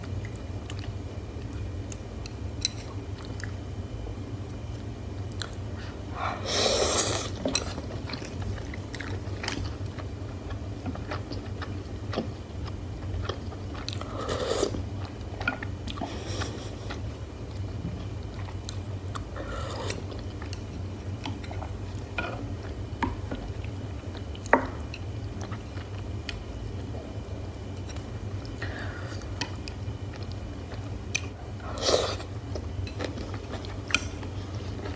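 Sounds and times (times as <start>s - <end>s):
steady low hum: 0.0s - 34.9s
chewing: 5.3s - 26.9s, 27.8s - 34.9s.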